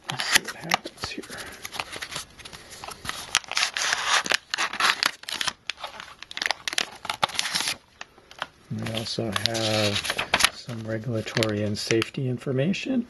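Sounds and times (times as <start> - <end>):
plastic bag crinkling: 0.1 - 11.7.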